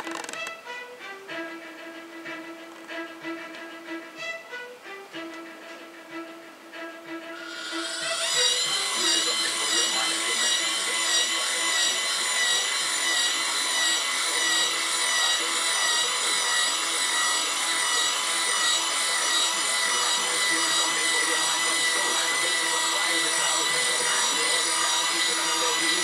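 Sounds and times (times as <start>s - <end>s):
small electric motor whining: 0.0s - 4.4s, 6.2s - 26.0s.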